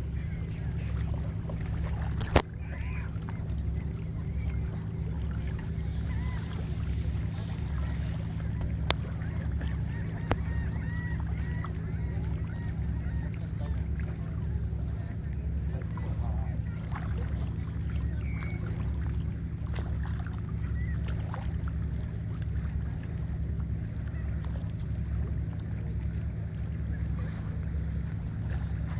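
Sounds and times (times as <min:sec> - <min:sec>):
waterbirds calling: 0:00.0 - 0:28.9
wind rumble on microphone: 0:00.0 - 0:28.9.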